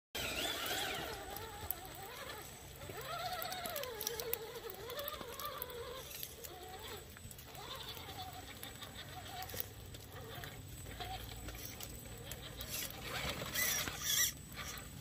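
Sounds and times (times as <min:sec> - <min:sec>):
electric motor whining: 0:00.2 - 0:15.0.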